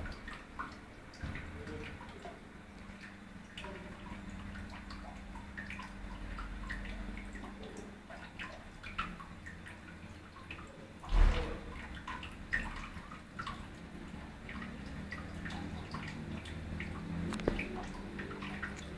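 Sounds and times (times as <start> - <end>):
light drip-like ticks: 0.0 - 18.9.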